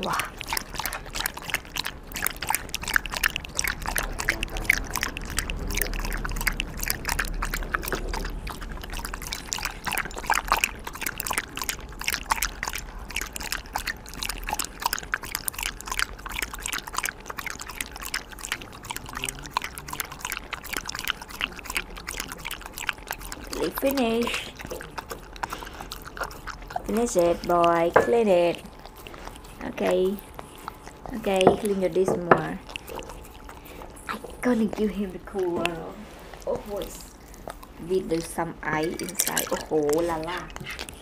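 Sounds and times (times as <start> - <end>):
dog lapping milk: 0.0 - 41.0.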